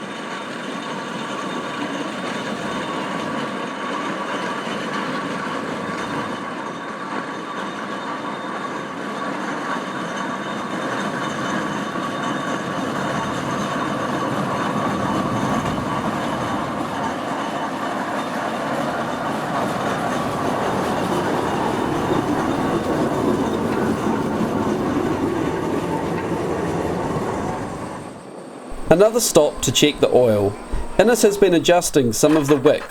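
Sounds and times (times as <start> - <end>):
steam traction engine clatter: 0.0 - 32.9.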